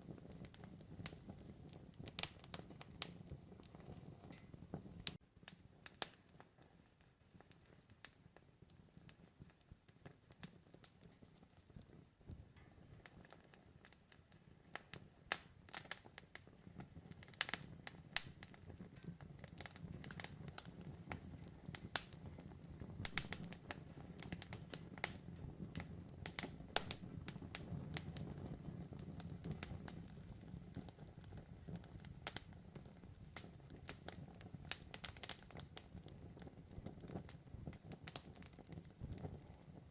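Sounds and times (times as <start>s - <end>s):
burning wood crackling and popping: 0.0s - 39.9s
low rumble of flames: 0.0s - 39.9s.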